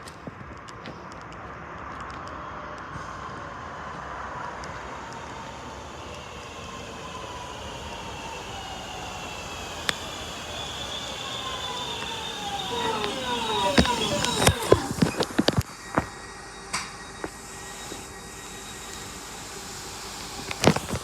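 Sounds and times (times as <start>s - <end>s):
electric train whine: 0.0s - 21.0s
rail rumble: 0.0s - 21.0s.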